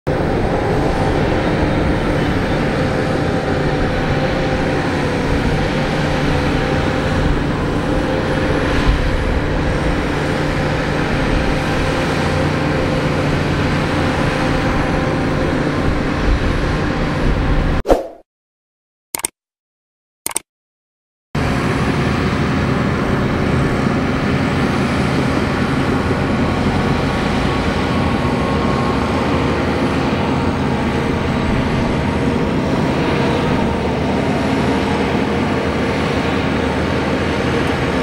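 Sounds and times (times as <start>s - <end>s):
bulldozer diesel engines running: 0.1s - 17.8s, 21.4s - 38.0s.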